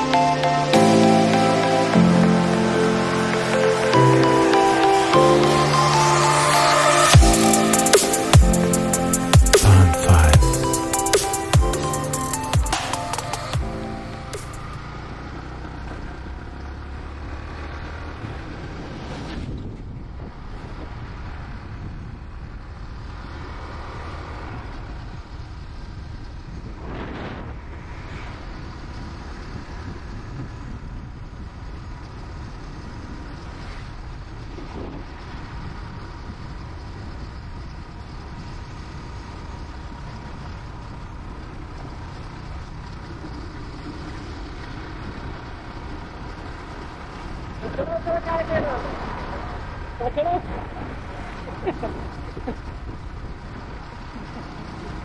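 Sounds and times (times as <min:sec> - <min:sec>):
motorcycle engine: 0:00.0 - 0:26.6, 0:27.9 - 0:47.7.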